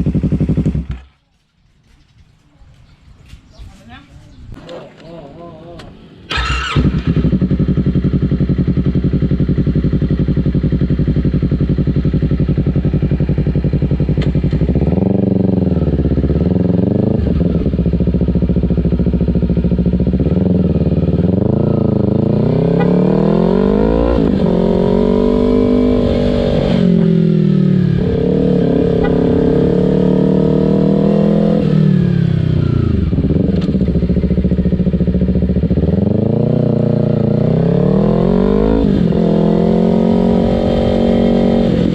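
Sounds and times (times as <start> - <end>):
motorcycle engine idling and revving: 0.0 - 2.1, 4.6 - 41.9.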